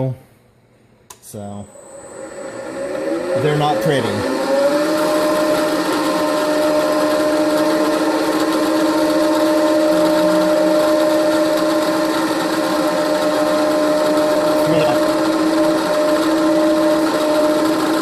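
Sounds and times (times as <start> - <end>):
milling machine motor hum: 1.6 - 18.0.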